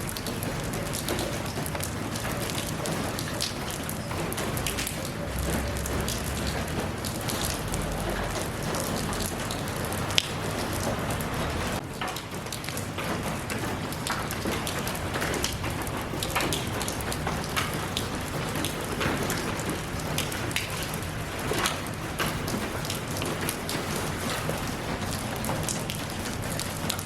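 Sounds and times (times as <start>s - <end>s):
raindrops ticking: 0.0s - 27.0s
steady rain hiss: 0.0s - 27.0s.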